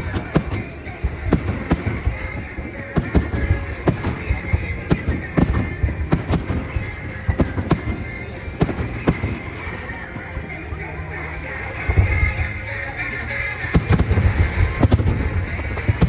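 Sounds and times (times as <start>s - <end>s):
fireworks bangs: 0.0s - 10.9s, 11.6s - 16.0s
low rumble of fireworks: 0.0s - 16.0s.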